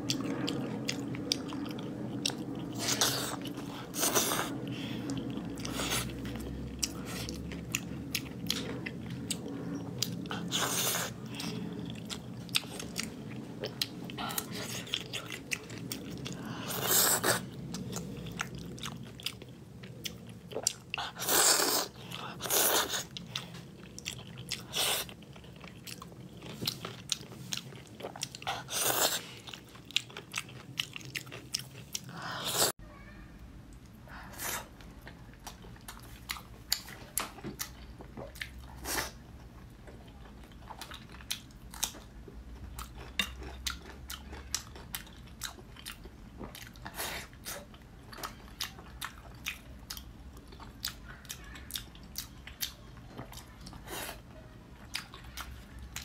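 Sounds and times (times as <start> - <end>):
chewing with mouth clicks: 0.0 - 32.7, 34.6 - 56.0.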